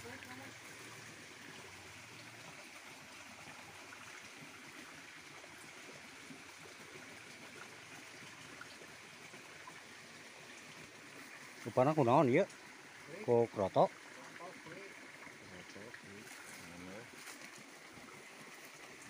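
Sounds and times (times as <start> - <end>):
water trickling in a ditch: 0.0 - 19.0.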